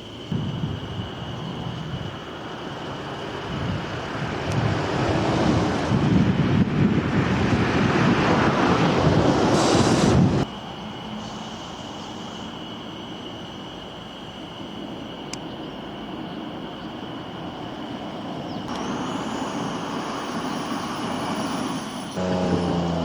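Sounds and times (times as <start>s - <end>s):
train rumbling past: 0.1s - 23.0s.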